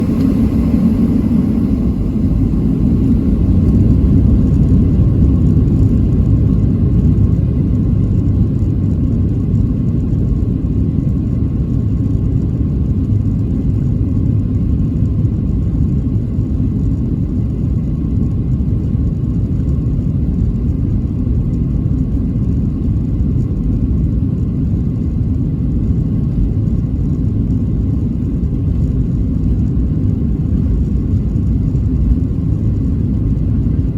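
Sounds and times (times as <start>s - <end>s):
jet engines rumbling on takeoff: 0.0s - 33.9s.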